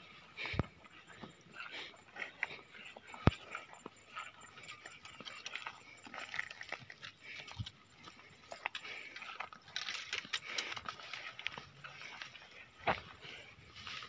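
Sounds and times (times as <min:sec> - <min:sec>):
dry stalks rustling and crackling: 0:00.0 - 0:14.0
footsteps through dry grass: 0:00.0 - 0:14.0.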